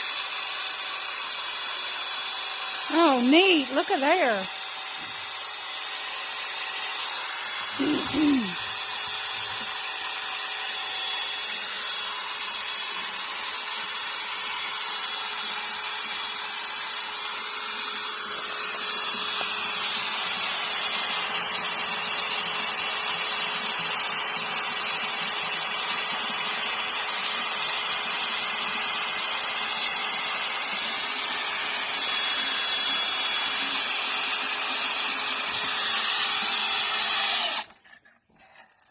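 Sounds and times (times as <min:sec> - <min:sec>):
electric drill motor whine: 0:00.0 - 0:38.0.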